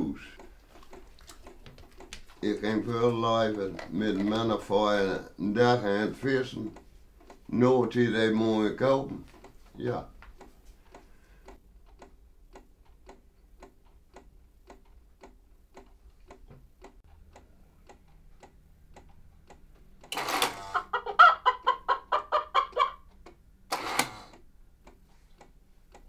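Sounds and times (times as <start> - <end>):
clock ticking: 0.0 - 21.0, 21.6 - 26.0.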